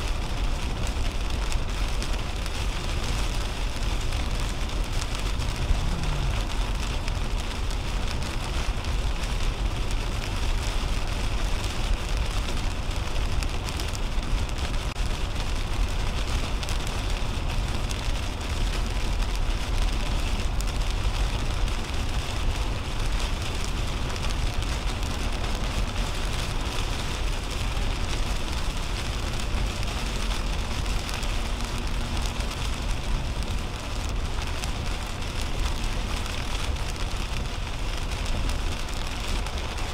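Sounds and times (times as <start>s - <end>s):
low road rumble: 0.0s - 39.9s
rain and tyre spray hiss: 0.0s - 39.9s.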